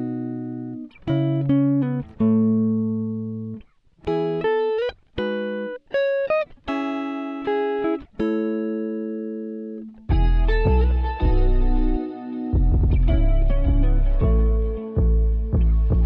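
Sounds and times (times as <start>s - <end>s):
solo guitar melody: 0.0s - 16.0s.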